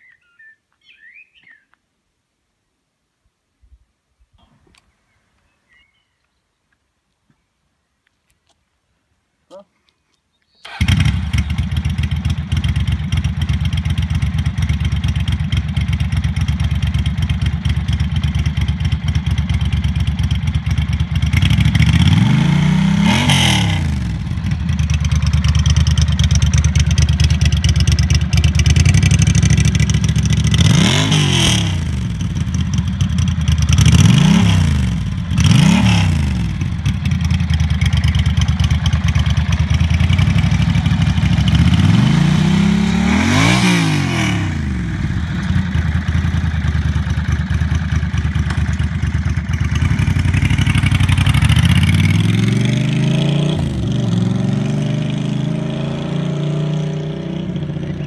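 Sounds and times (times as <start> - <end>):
motorcycle engine idling and revving: 10.6 - 58.0.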